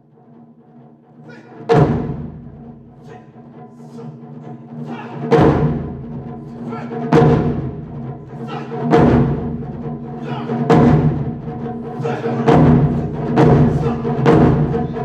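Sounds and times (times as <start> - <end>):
heavy drum strokes: 1.2 - 15.0.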